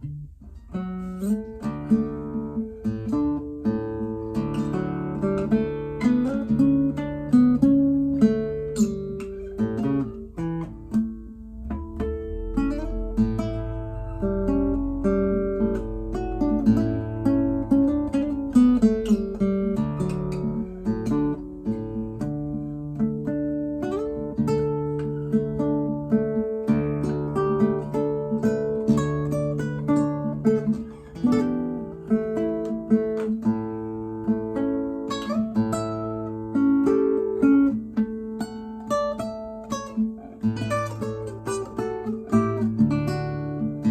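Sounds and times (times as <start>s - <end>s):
classical guitar playing: 0.0s - 43.9s.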